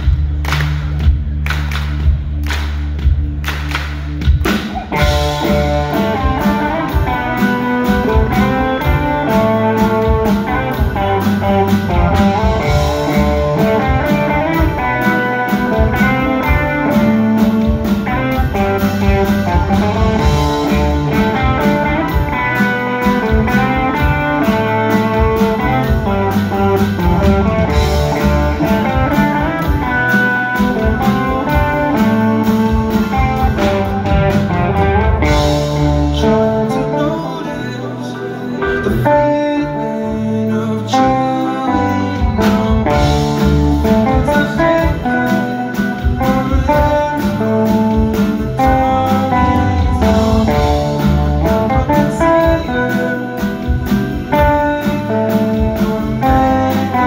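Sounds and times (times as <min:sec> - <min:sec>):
steady drum beat: 0:00.0 - 0:36.7, 0:42.1 - 0:57.0
bass: 0:00.0 - 0:57.0
keyboards: 0:00.0 - 0:57.0
electric guitar lines: 0:03.5 - 0:57.0.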